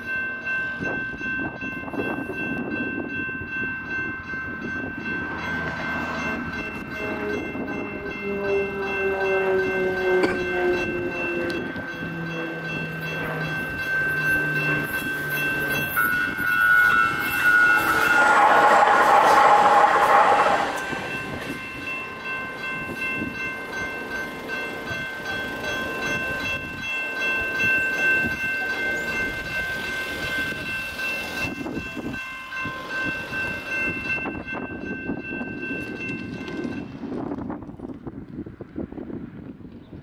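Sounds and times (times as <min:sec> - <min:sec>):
crossing bell ringing: 0:00.0 - 0:37.6
light rail train passing: 0:00.0 - 0:40.0.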